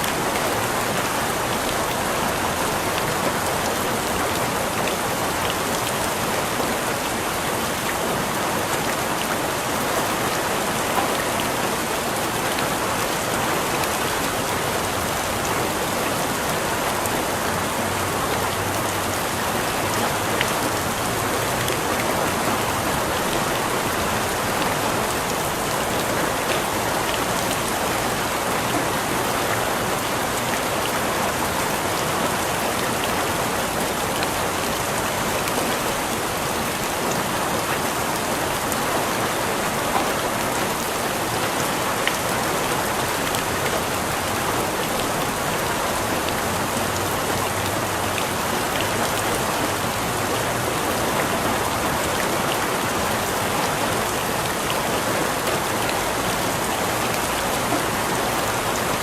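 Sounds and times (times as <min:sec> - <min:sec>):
heavy rain on hard surface: 0:00.0 - 0:59.0.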